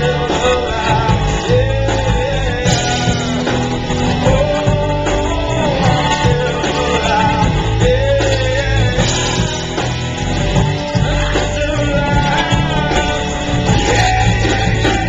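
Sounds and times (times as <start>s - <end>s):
guitar: 0.0s - 15.0s
person singing: 0.0s - 15.0s
rock music: 0.0s - 15.0s.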